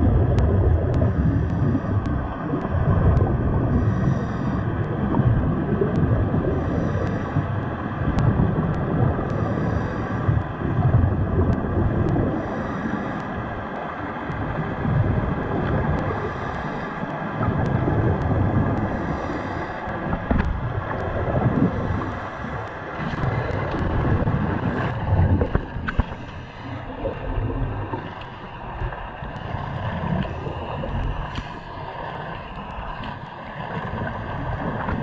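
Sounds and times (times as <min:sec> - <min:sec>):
underwater low rumble: 0:00.0 - 0:35.0.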